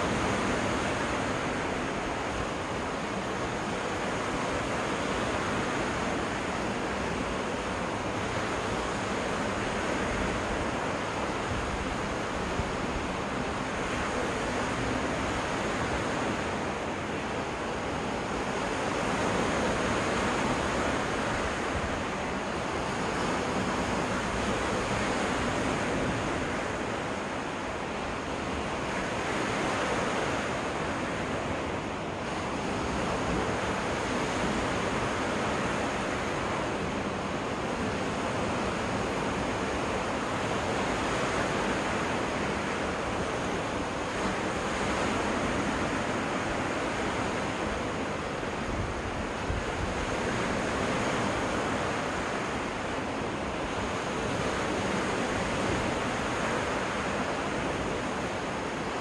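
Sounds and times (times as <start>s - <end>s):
waves breaking on beach: 0.0s - 59.0s.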